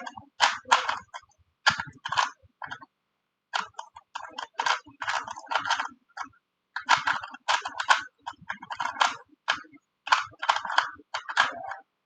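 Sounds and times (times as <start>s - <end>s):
puzzle cube layers clicking: 0.0s - 2.9s, 3.6s - 11.8s.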